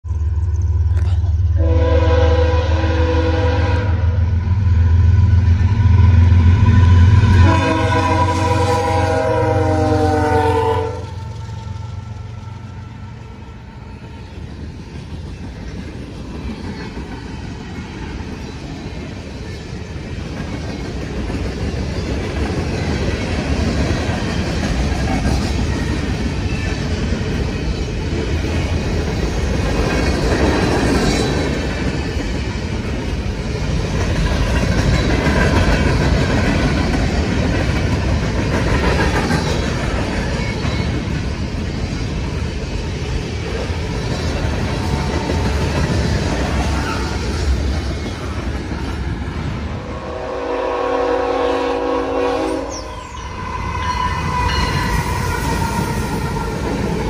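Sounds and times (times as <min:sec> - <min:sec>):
freight train clattering over rails: 0:05.2 - 0:57.0.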